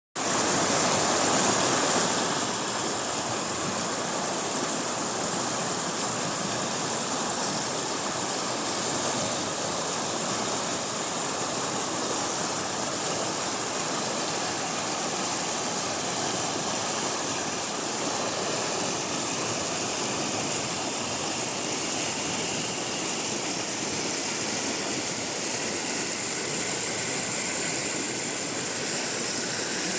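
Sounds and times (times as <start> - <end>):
water flowing: 0.2 - 29.9.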